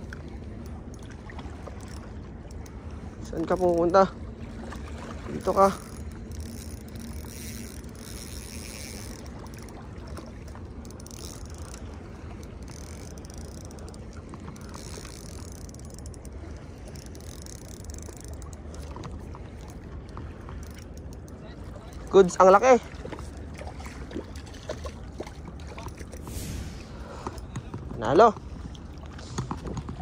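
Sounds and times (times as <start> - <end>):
water: 0.0 - 30.0
wind: 0.0 - 30.0.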